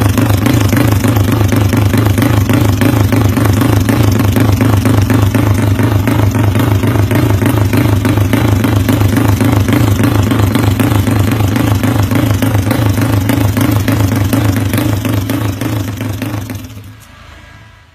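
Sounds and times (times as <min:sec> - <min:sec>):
scooter engine idling with fast chop: 0:00.0 - 0:17.2.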